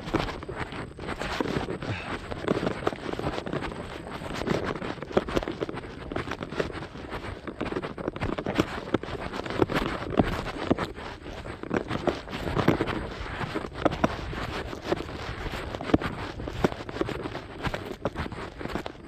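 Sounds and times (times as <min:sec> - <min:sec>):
runner's footsteps: 0:00.0 - 0:19.0.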